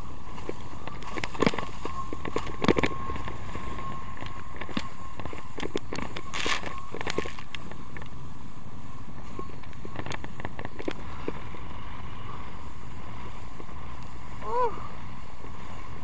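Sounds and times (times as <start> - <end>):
faint steady whine: 0.0 - 16.0
wind rushing over microphone: 0.0 - 16.0.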